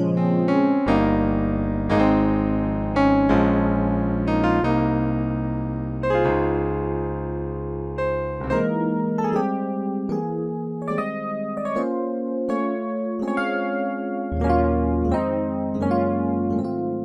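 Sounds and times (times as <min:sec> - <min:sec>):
electric piano chords: 0:00.0 - 0:17.0.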